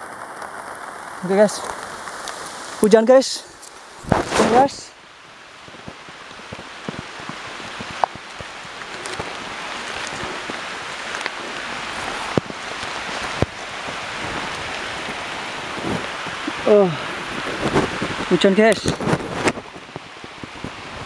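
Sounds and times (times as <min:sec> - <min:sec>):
rain on foliage: 0:00.0 - 0:21.0.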